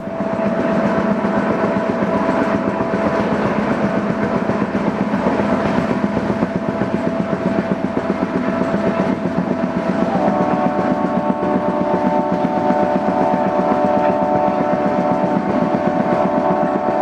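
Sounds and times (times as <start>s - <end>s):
constant whine: 0.0s - 17.0s
train rumbling and rattling: 0.0s - 17.0s.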